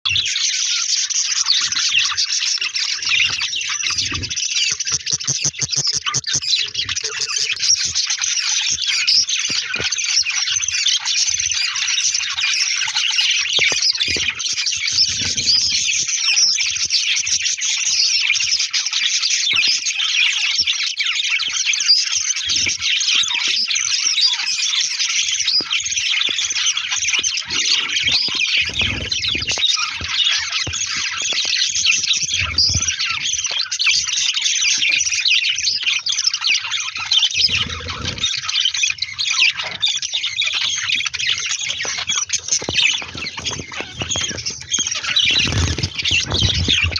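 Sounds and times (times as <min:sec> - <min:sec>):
budgerigars chattering and squawking: 0:00.1 - 0:46.9.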